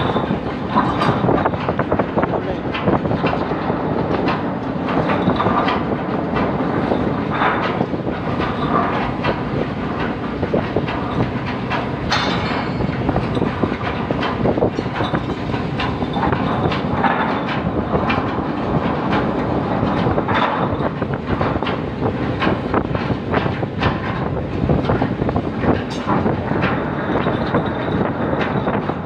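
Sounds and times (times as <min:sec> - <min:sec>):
anchor chain rattling on steel deck: 0:00.0 - 0:29.0.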